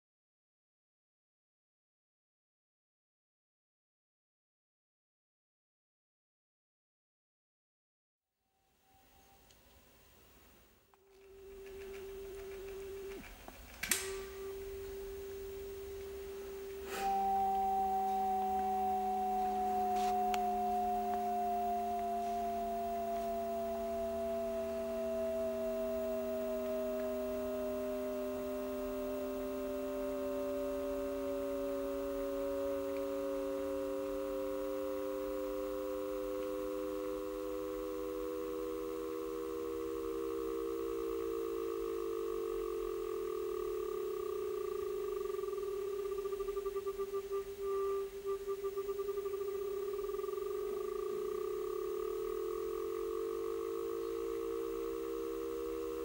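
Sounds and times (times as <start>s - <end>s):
electronic pure tones: 11.0s - 56.0s.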